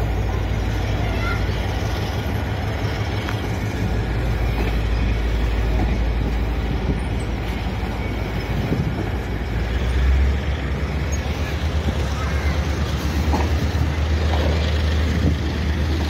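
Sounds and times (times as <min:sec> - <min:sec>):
station background noise: 0:00.0 - 0:16.0
train low rumble: 0:00.0 - 0:16.0.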